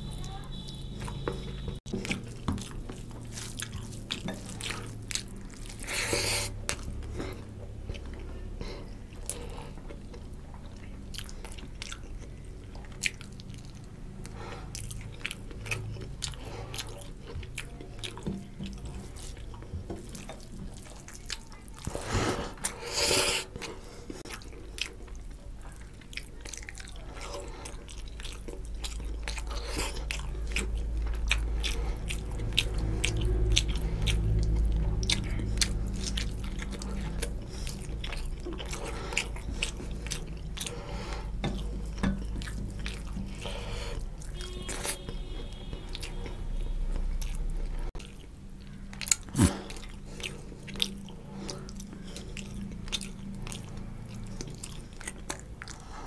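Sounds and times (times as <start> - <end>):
low steady hum: 0.0 - 56.0
wet chewing and lip-smacking: 0.0 - 56.0.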